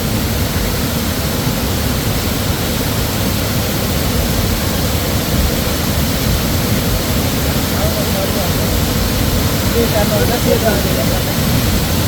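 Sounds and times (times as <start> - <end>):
fast-flowing river rushing: 0.0 - 12.0.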